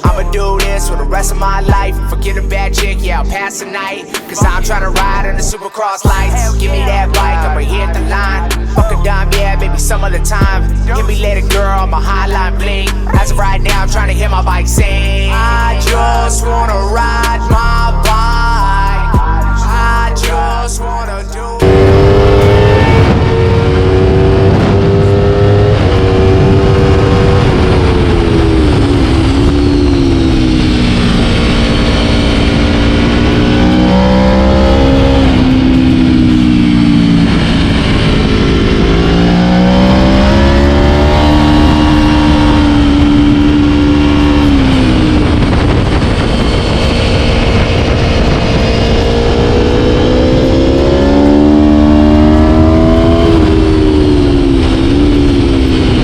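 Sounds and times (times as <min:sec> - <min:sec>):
motorcycle engine accelerating: 0:00.0 - 0:03.4, 0:04.4 - 0:56.0.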